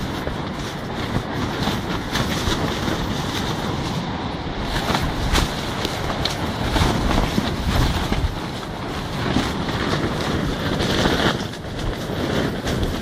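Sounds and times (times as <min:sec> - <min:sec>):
tent fabric flapping: 0:00.0 - 0:13.0
wind rumbling on microphone: 0:00.0 - 0:13.0.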